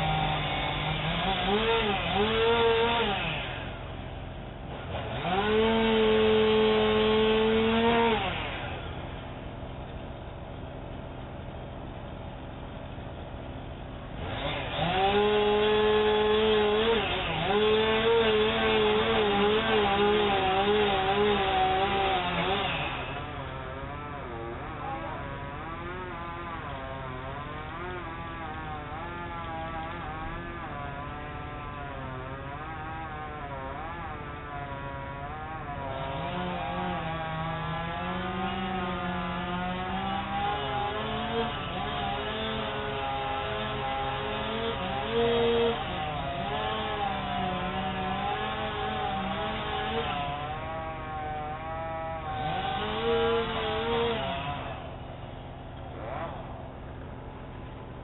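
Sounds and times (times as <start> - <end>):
chainsaw running: 0.0 - 58.0.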